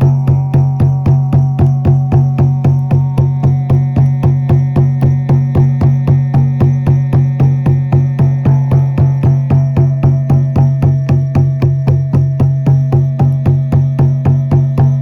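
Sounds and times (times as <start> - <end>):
low drone: 0.0 - 14.5
frame drum beaten in steady rhythm: 0.0 - 15.0.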